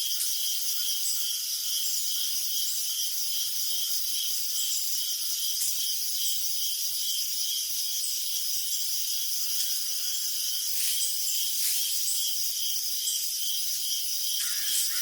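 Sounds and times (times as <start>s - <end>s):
crickets chorus: 0.0s - 15.0s
nearby cricket chirping: 0.0s - 15.0s.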